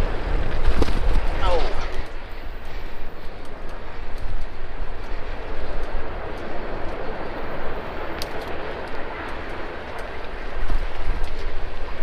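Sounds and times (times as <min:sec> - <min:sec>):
tyres rolling on dirt: 0:00.0 - 0:12.0
wind buffeting microphone: 0:00.0 - 0:12.0.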